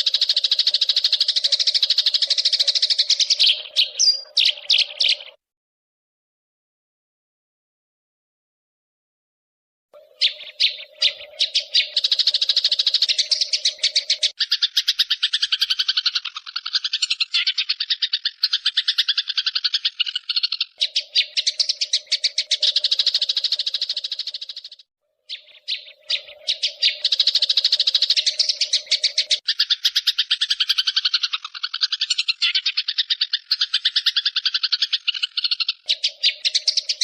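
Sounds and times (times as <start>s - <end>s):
songbird trilling: 0.0s - 5.4s, 10.0s - 37.0s.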